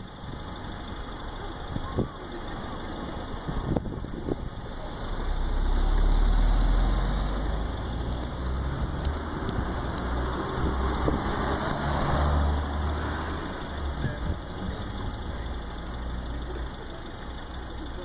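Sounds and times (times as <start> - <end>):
street background rumble: 0.0 - 18.0.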